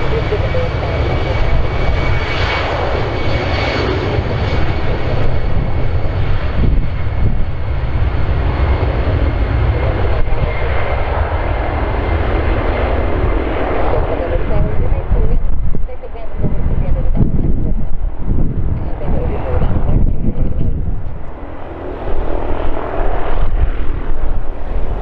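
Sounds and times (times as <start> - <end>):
high engine whine: 0.0 - 25.0
jet engines at takeoff power: 0.0 - 25.0.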